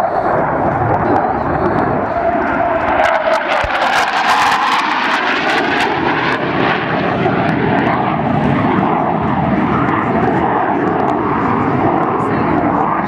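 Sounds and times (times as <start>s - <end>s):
jet engines roaring with whine: 0.0s - 13.0s.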